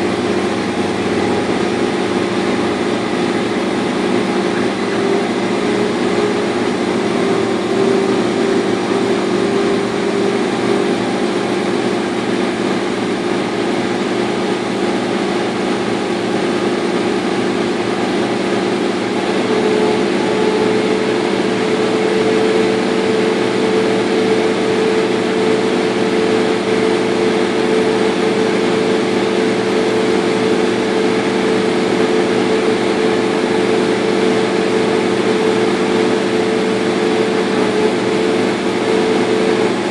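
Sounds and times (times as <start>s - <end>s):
laser cutter machine drone: 0.0s - 39.9s.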